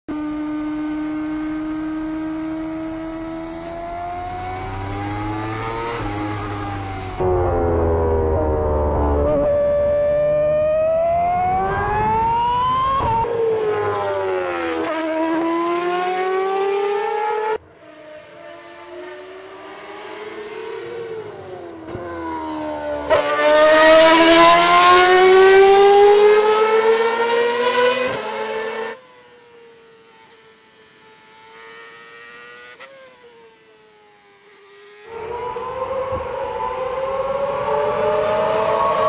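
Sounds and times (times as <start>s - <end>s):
race car engine at high revs: 0.1s - 39.0s
race car passing by: 0.5s - 39.0s.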